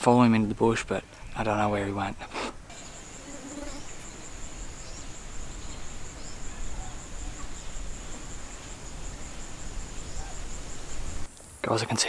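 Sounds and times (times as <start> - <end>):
insects chirring: 0.3 - 12.0.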